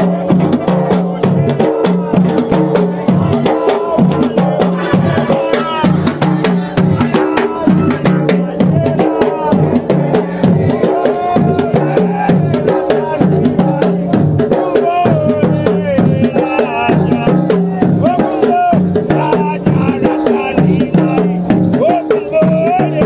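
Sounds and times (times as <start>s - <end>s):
barrel drums beaten by hand: 0.0s - 23.0s
voices: 0.0s - 23.0s.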